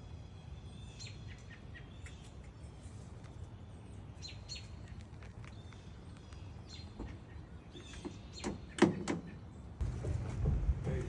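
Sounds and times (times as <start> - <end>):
light bird chirps: 0.0 - 9.8.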